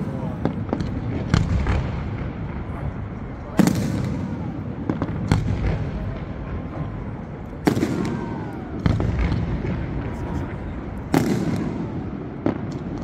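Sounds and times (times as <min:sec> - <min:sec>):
fireworks bangs: 0:00.0 - 0:13.0
fireworks rumble and crackle: 0:00.0 - 0:13.0.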